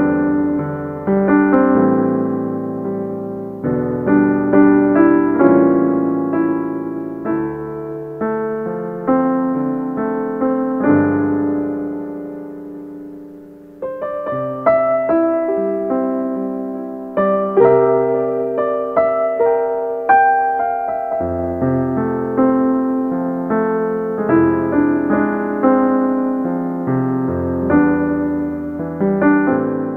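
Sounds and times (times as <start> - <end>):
piano notes and chords: 0.0 - 29.9.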